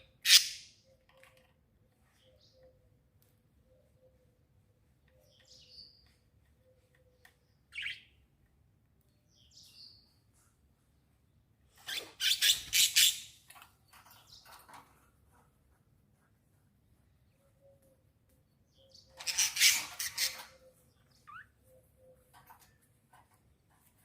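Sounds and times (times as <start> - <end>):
small birds chirping: 0.0 - 15.5, 16.6 - 24.0.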